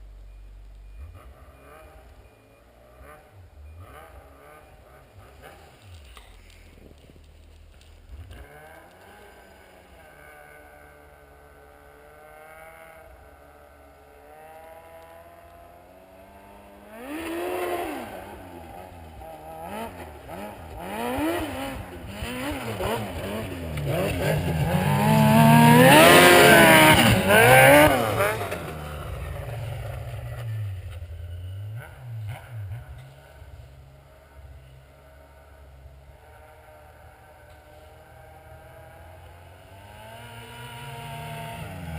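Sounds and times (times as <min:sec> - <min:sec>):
snowmobile engine idling and revving: 0:00.0 - 0:41.9.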